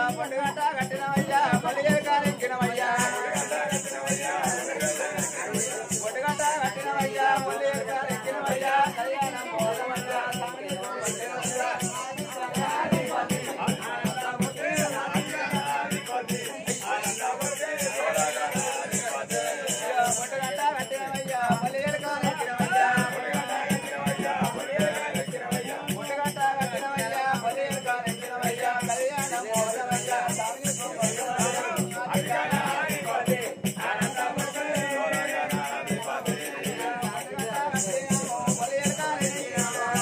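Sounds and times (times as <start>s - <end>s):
low drum with jingling rattle: 0.0s - 40.0s.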